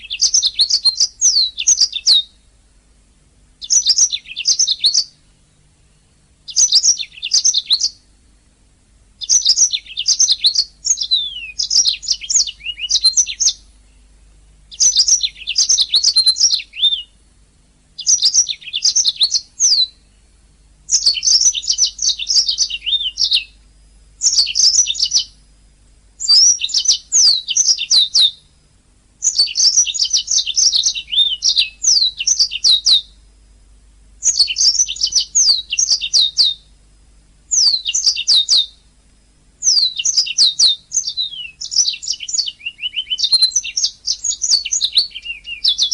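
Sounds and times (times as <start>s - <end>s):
canary singing in trills: 0.0s - 45.9s.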